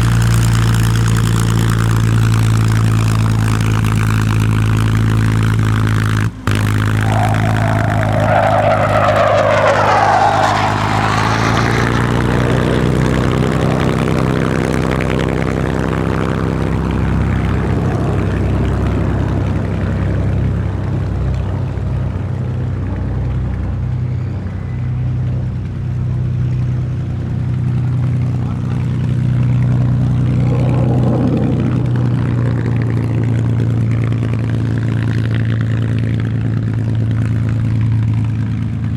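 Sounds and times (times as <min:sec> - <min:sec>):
piston aero engine running: 0:00.0 - 0:38.9.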